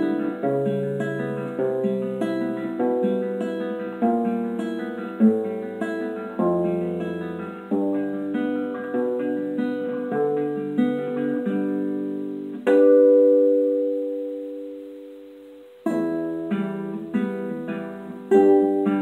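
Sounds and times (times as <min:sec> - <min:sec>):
classical guitar fingerstyle: 0:00.0 - 0:19.0.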